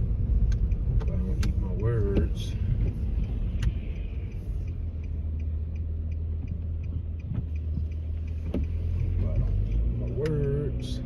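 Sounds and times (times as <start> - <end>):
car interior rumble while driving: 0.0 - 11.0
faint even ticking: 0.0 - 11.0.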